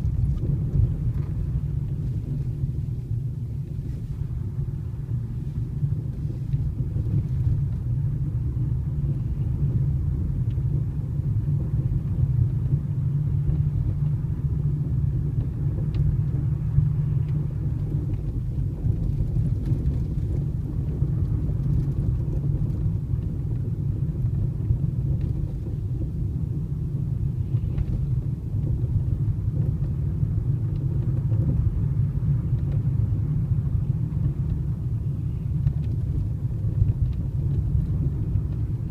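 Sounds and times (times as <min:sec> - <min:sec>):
car driving low rumble: 0:00.0 - 0:38.9.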